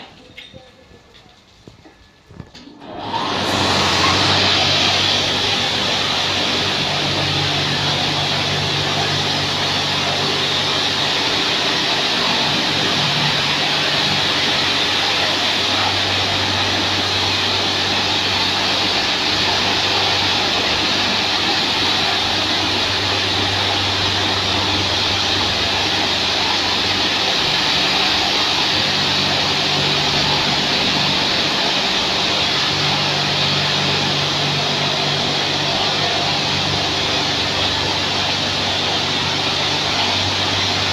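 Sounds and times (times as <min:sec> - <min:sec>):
pump motor hum: 0:02.3 - 0:40.9
high-pressure water jets hissing: 0:03.2 - 0:40.9.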